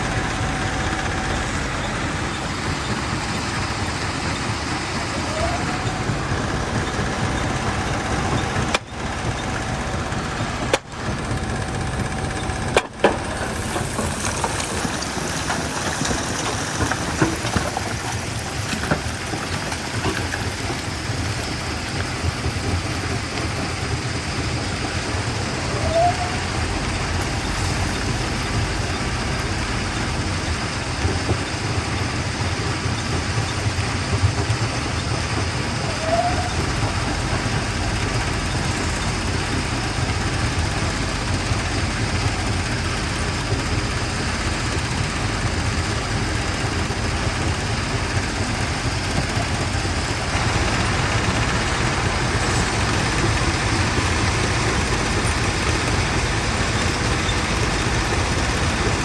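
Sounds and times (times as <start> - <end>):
jaw crusher rumbling: 0.0 - 59.0.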